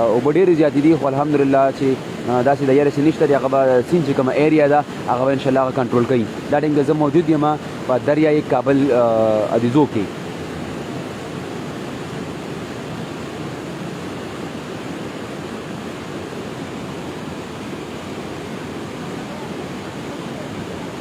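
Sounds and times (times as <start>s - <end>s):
flood water rushing: 0.0s - 21.0s.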